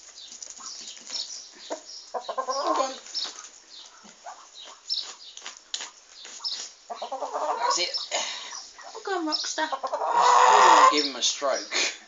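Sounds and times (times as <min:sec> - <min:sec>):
chickens clucking: 0:00.3 - 0:11.8.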